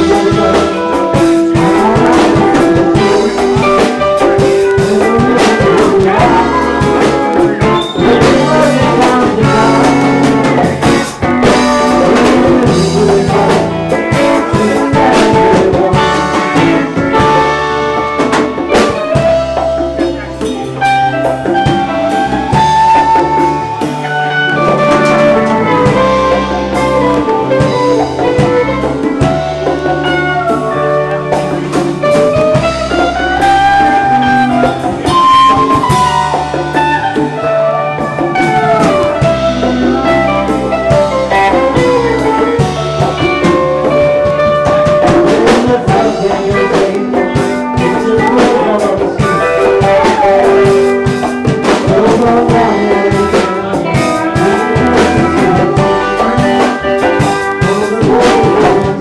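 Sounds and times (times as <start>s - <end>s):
drum kit hits: 0.0s - 59.0s
electric guitars: 0.0s - 59.0s.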